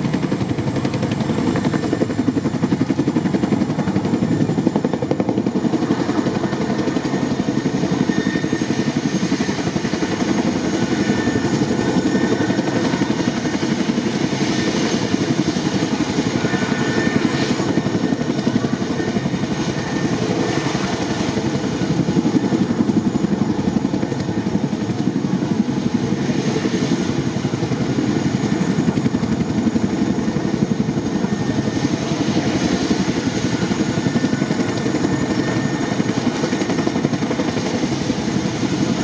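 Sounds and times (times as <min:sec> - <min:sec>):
helicopter rotor beat: 0:00.0 - 0:39.0.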